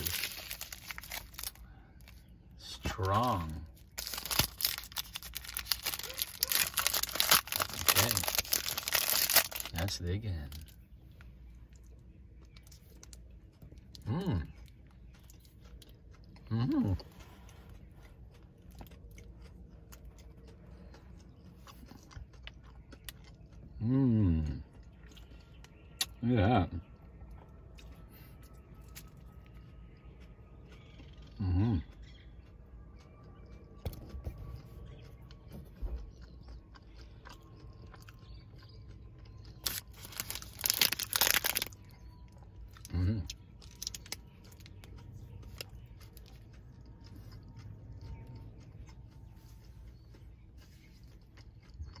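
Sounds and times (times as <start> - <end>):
chewing with small crunches: 0.0 - 52.0.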